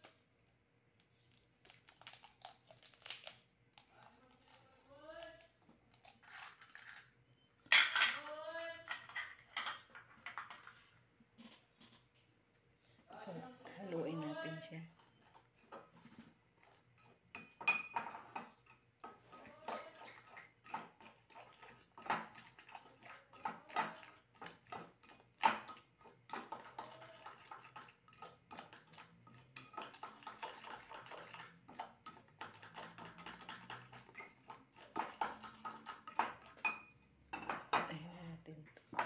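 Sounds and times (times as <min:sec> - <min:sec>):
utensil clinking and scraping bowl: 0:03.9 - 0:12.8, 0:13.7 - 0:39.0.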